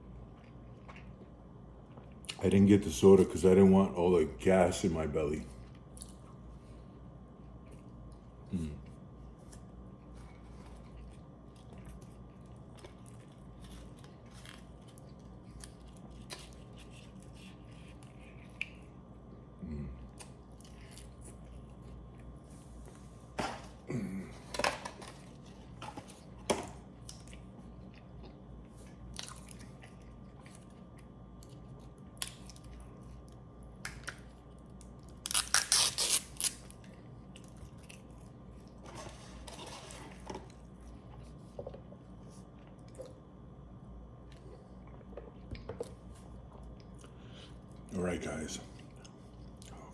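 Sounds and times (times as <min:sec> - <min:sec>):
person chewing food: 0:00.1 - 0:02.4, 0:07.4 - 0:23.0, 0:24.5 - 0:47.9.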